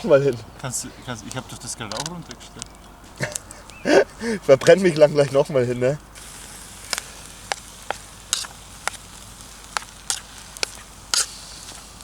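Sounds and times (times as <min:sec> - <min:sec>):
campfire crackling and popping: 0:00.0 - 0:12.0
fire hiss: 0:00.0 - 0:12.0.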